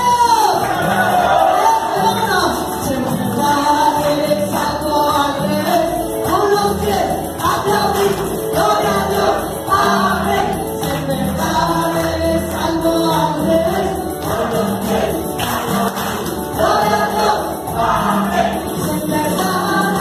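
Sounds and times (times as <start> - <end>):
keyboard: 0.0 - 20.0
voices singing along: 0.4 - 20.0
woman singing through speakers: 1.4 - 20.0.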